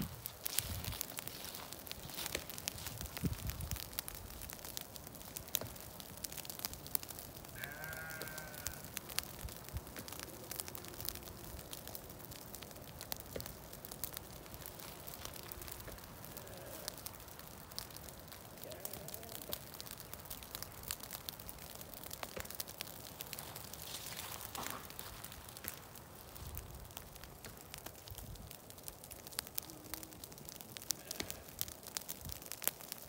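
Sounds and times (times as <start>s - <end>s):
dry leaves crackling underfoot: 0.0s - 32.7s.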